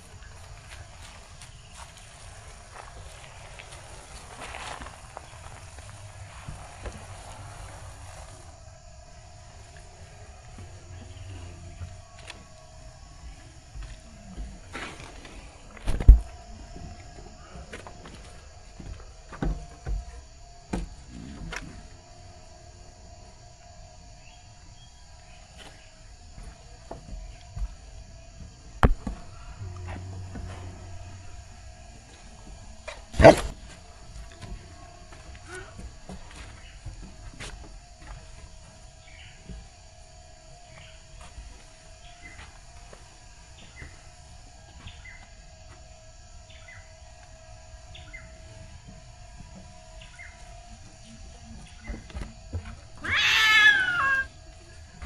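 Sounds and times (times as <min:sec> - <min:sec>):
faint hum: 0:00.0 - 0:55.0
insect chirring: 0:00.0 - 0:55.0.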